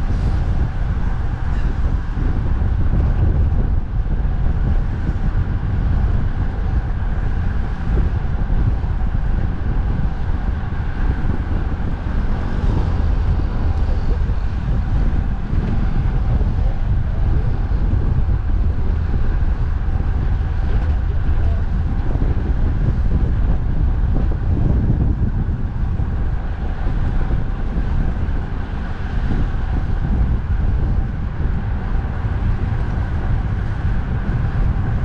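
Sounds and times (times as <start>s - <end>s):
road traffic noise: 0.0s - 35.0s
wind buffeting microphone: 0.0s - 35.0s.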